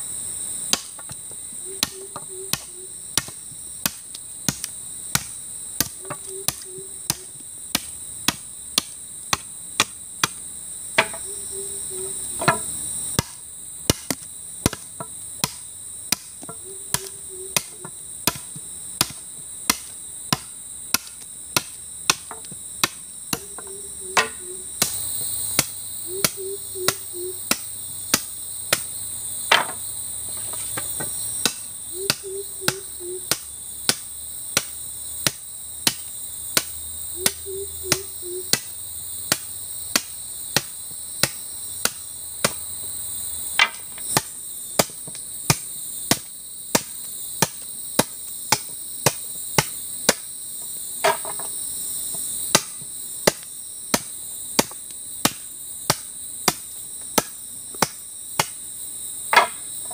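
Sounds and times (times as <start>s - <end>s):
insects droning: 0.0s - 59.9s
machete chopping bamboo: 0.7s - 10.4s, 11.0s - 11.4s, 12.4s - 28.9s, 29.5s - 29.8s, 30.6s - 42.6s, 43.6s - 50.3s, 51.0s - 51.5s, 52.5s - 58.6s, 59.3s - 59.9s.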